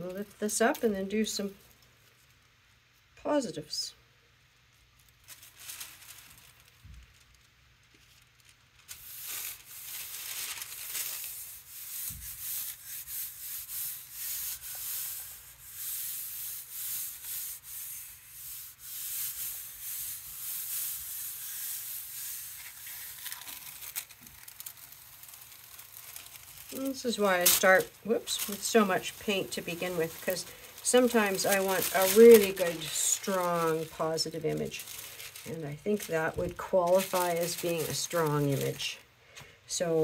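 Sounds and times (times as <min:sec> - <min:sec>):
tissue paper rubbing rustle: 0:04.8 - 0:39.0.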